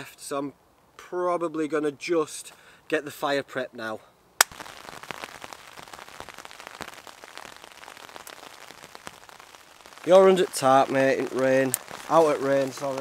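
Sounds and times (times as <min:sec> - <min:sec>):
light rain pattering on tarp: 0:00.0 - 0:13.0.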